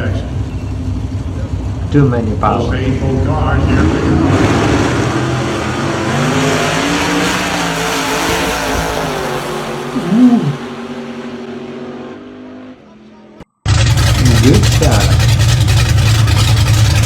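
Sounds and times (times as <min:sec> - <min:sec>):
drag car engine revving: 0:00.0 - 0:17.0.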